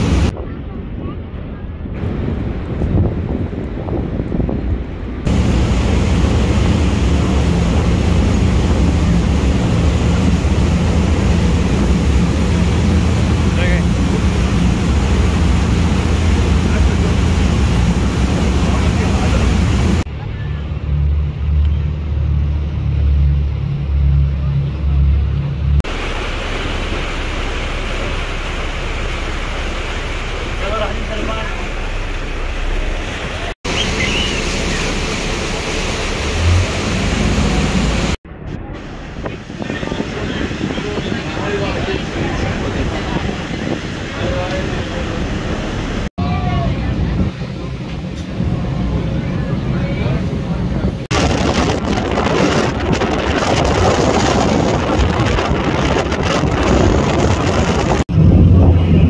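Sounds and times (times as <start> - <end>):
low hum: 0.0 - 59.0
rushing wind and water: 0.0 - 59.0
motorboat speeding past: 5.3 - 59.0.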